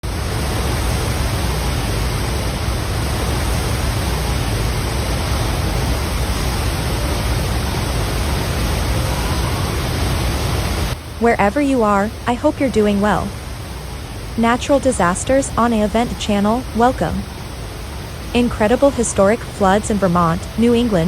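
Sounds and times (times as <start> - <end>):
loud rushing noise: 0.0 - 21.0.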